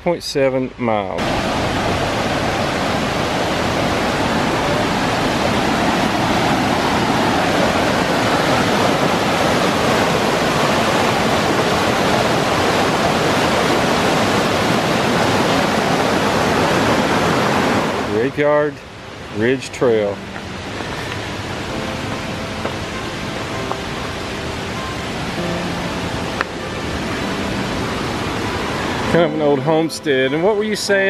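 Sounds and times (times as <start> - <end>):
creek water rushing: 1.2 - 31.0.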